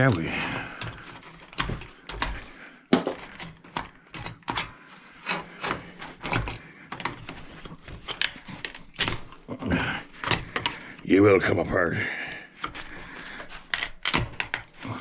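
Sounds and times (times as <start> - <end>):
hand tools prying and scraping: 0.0 - 11.1, 12.5 - 15.0.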